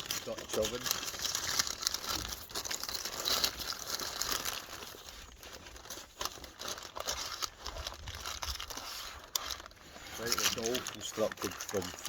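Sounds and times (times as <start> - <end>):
paper wrapping crinkling: 0.0 - 12.0.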